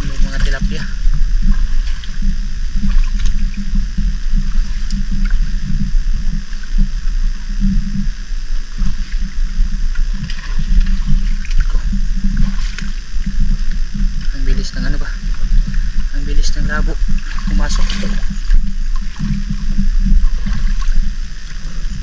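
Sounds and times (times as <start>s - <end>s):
seawater sloshing as someone wades: 0.0s - 7.7s, 8.7s - 22.0s.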